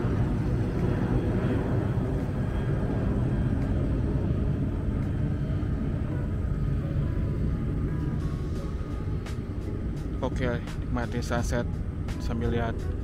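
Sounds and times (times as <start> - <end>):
airliner taking off: 0.0 - 13.0.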